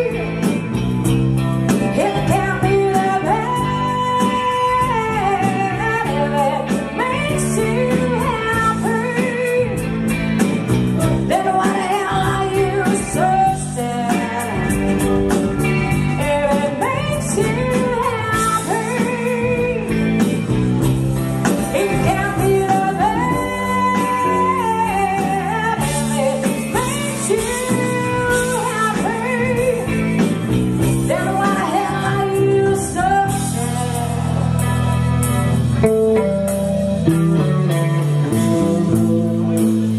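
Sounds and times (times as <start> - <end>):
woman singing: 0.0 - 0.8, 1.7 - 20.6, 21.4 - 35.4
bass guitar: 0.0 - 39.9
drums: 0.0 - 39.9
electric guitar: 0.0 - 39.9.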